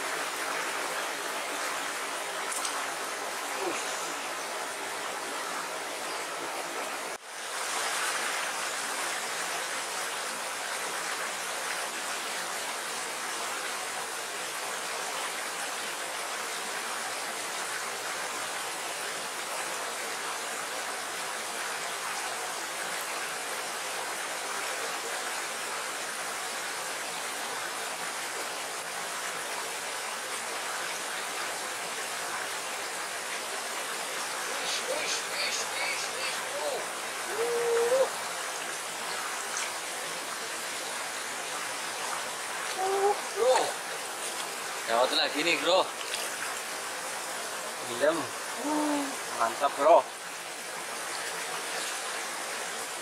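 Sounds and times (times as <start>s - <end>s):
stream rushing over stones: 0.0s - 53.0s.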